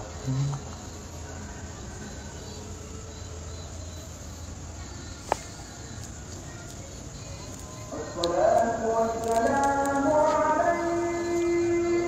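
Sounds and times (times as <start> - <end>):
faint background noise: 0.0 - 12.0
steady low hum: 0.0 - 12.0.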